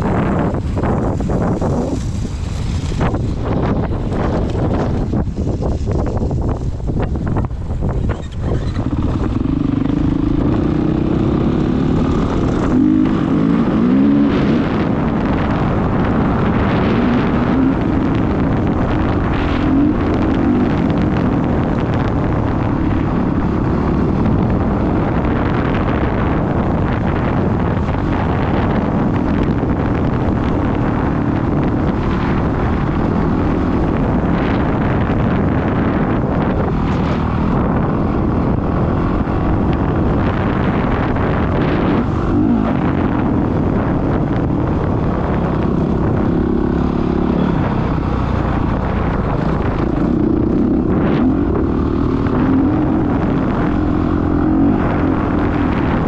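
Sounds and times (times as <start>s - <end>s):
wind buffeting microphone: 0.0s - 56.0s
dirt bike engine revving: 8.1s - 56.0s.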